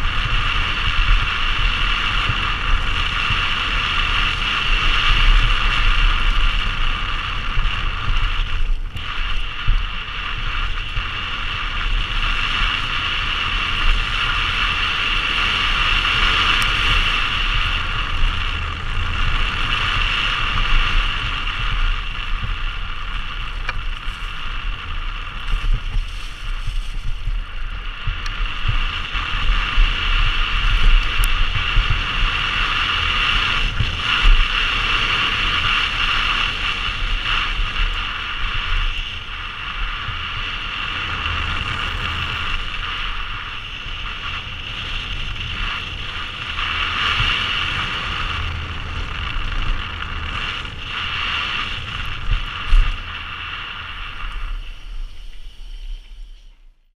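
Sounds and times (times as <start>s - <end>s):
bike tyres rumbling on dirt: 0.0s - 56.9s
wind rushing over camera: 0.0s - 56.9s.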